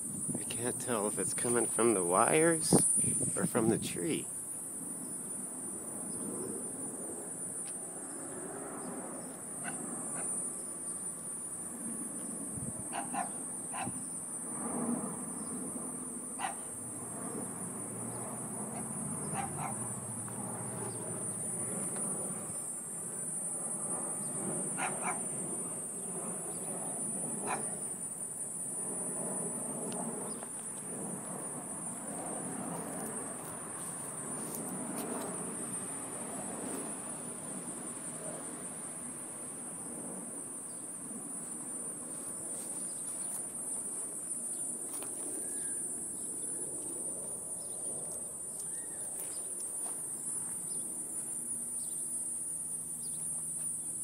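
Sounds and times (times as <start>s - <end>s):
high-pitched buzzing whine: 0.0s - 54.0s.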